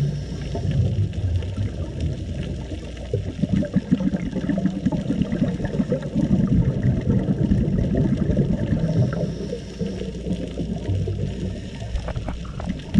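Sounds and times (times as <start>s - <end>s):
muffled underwater water rumble: 0.0s - 12.9s.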